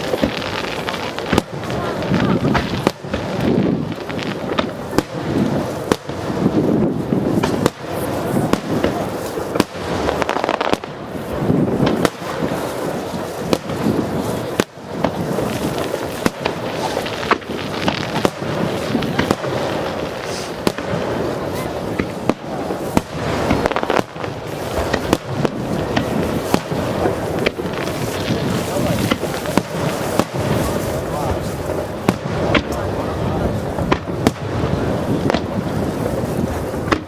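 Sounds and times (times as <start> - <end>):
booming rumble: 0.0 - 37.0
fireworks bangs and pops: 0.0 - 37.0.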